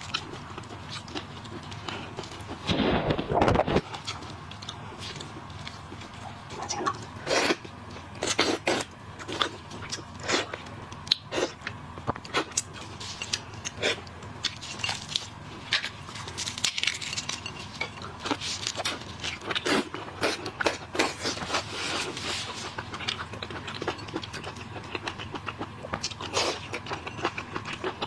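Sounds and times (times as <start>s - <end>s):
crunchy chewing and biting: 0.0s - 28.0s.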